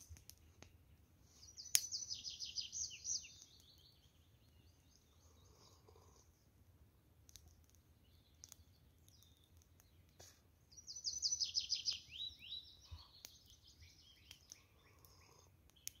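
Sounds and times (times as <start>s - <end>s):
birds chirping faintly: 0.0s - 16.0s
songbird singing: 0.2s - 6.2s, 7.3s - 16.0s.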